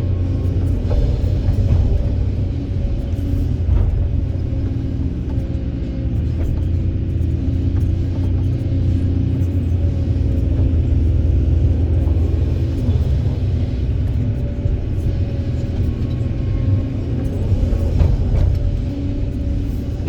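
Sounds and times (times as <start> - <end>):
excavator diesel engine rumbling: 0.0 - 20.0.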